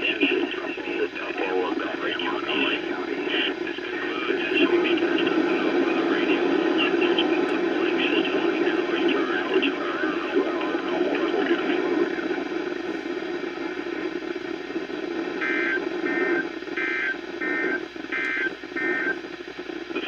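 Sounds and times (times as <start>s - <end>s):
radio hiss: 0.0s - 20.0s.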